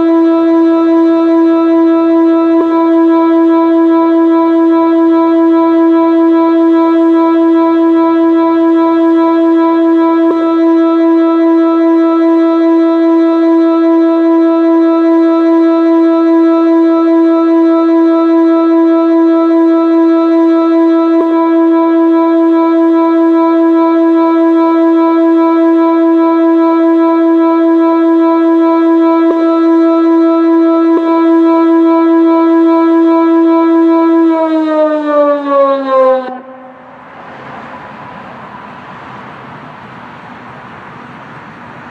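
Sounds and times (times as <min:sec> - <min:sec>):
warning siren steady tone: 0:00.0 - 0:41.9.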